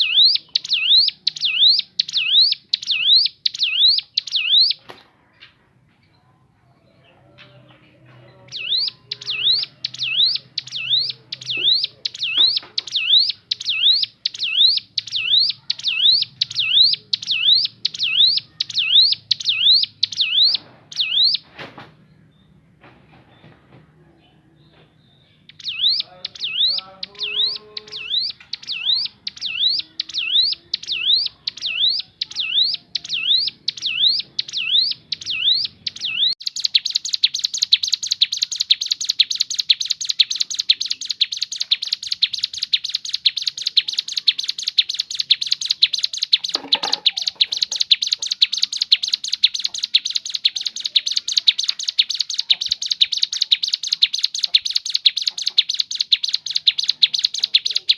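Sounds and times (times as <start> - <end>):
bird fast trill: 0.0 - 4.8, 8.5 - 21.5, 25.4 - 57.9.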